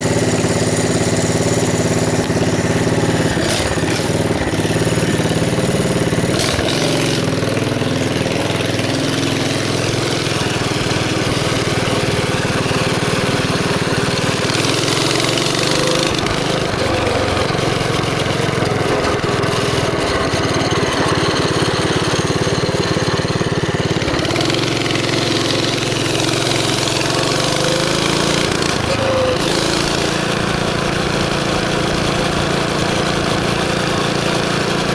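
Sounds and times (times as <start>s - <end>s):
mini bike engine running: 0.0s - 34.9s.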